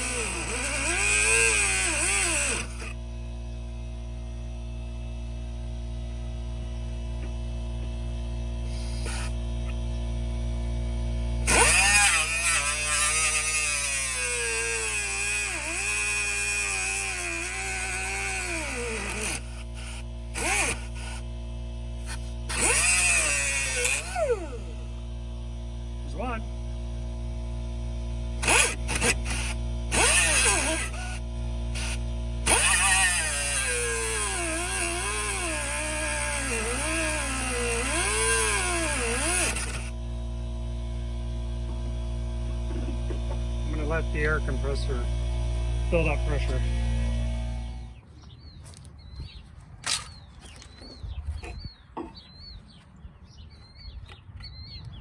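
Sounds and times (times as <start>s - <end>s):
power tool motor whining: 0.0s - 51.7s
steady low hum: 0.0s - 53.9s.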